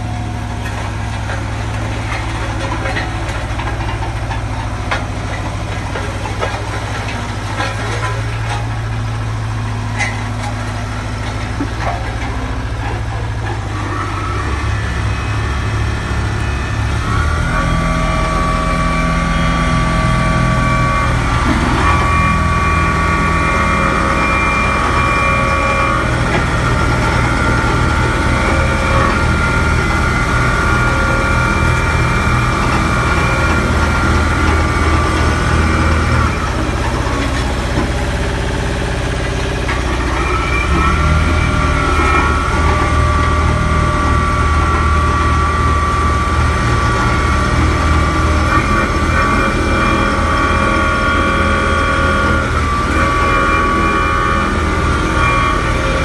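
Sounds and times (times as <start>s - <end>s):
diesel engine running: 0.0s - 56.0s
high whine: 0.0s - 56.0s.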